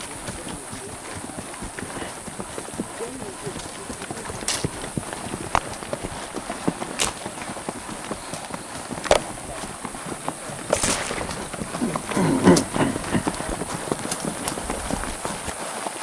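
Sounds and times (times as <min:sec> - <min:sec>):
horse hooves clopping on dirt: 0:00.0 - 0:16.0.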